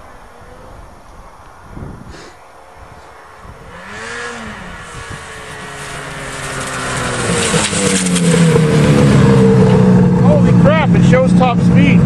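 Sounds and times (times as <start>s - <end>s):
snowmobile engine approaching: 2.2s - 12.0s.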